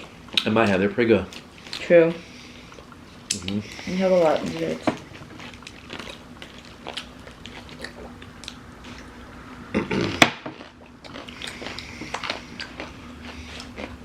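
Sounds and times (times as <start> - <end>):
faint steady hum: 0.0 - 14.0
people chewing and eating: 0.0 - 14.0.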